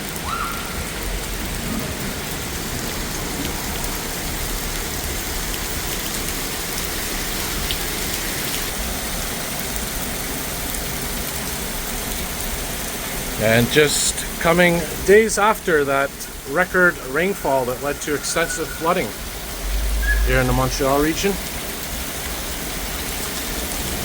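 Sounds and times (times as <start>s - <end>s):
heavy rain splashing on ground: 0.0s - 24.0s.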